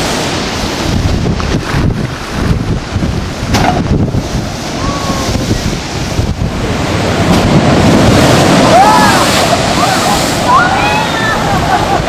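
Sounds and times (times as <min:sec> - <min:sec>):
heavy surf breaking: 0:00.0 - 0:12.0
wind buffeting microphone: 0:00.0 - 0:12.0.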